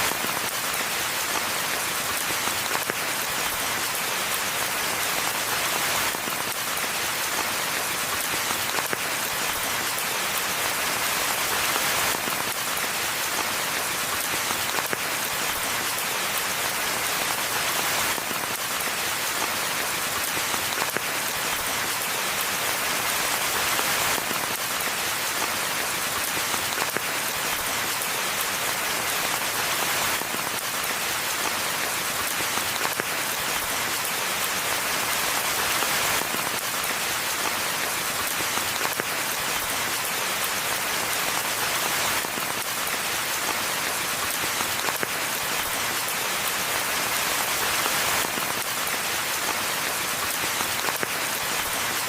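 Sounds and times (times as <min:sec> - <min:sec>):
rain hissing in forest: 0:00.0 - 0:52.0.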